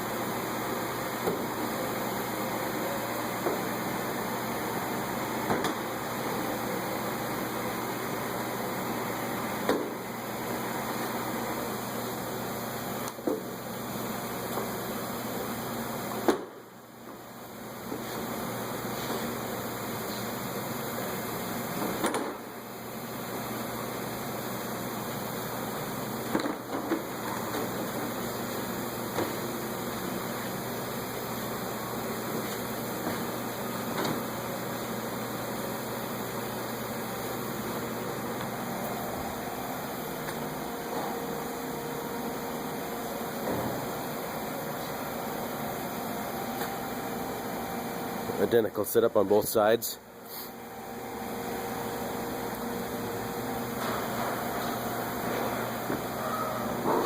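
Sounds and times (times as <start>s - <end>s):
steady background hiss: 0.0s - 56.9s.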